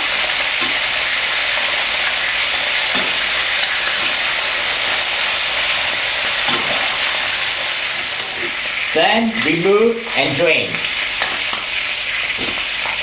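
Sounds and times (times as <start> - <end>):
meat deep-frying in oil: 0.0 - 13.0.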